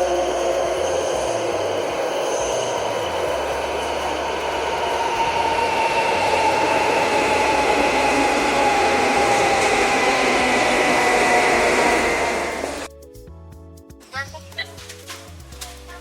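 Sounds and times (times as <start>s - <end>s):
train rumble and hiss: 0.0s - 12.9s
whining tones falling in pitch: 0.0s - 12.9s.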